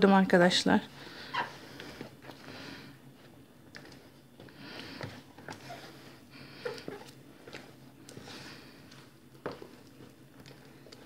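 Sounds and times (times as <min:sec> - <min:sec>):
hand mixing dough in bowl: 0:00.1 - 0:11.0.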